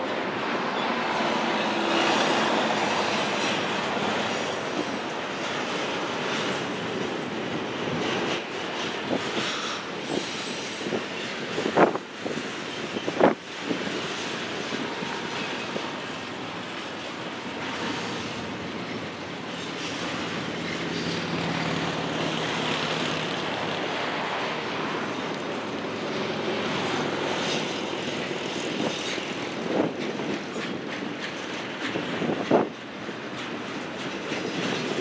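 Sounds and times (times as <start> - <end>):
freight train rumbling and rattling: 0.0 - 35.0.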